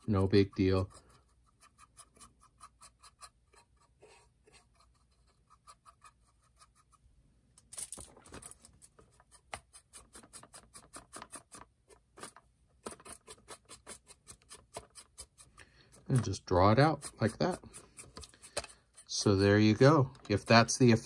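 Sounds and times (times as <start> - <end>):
brush scratching on plastic: 0.0 - 7.1, 8.4 - 21.0.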